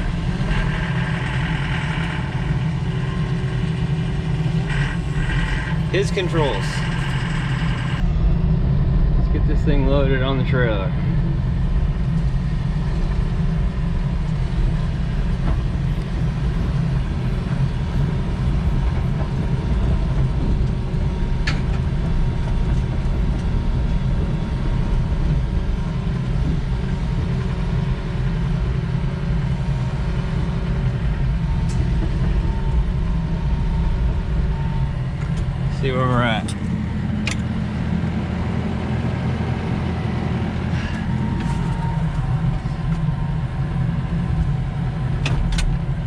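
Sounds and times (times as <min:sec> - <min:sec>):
diesel engine rumbling under load: 0:00.0 - 0:46.0.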